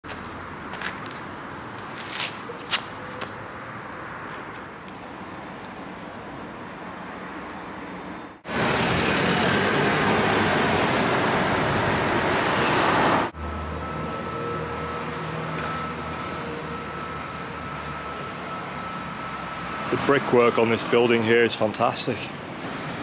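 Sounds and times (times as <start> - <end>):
city street traffic: 0.0 - 23.0.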